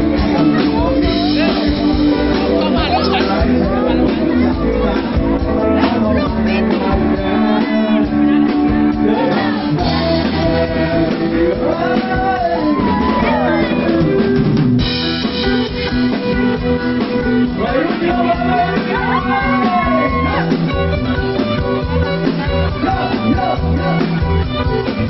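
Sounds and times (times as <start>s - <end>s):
person singing: 0.0s - 14.5s, 17.2s - 25.0s
drum kit: 0.0s - 25.0s
guitar: 0.0s - 25.0s.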